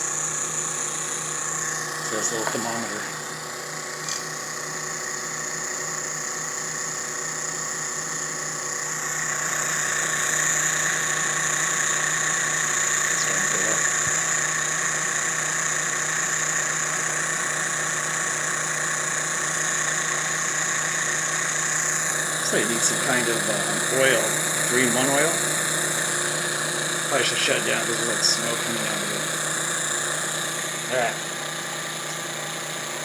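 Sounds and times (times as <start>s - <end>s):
model turbojet engine whine: 0.0s - 33.0s.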